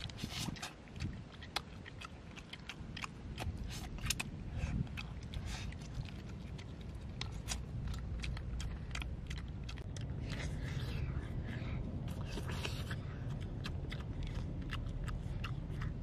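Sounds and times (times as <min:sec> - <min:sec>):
low rumble: 0:00.0 - 0:16.0
mouth clicks and lip smacks: 0:00.0 - 0:16.0
person chewing: 0:00.0 - 0:16.0.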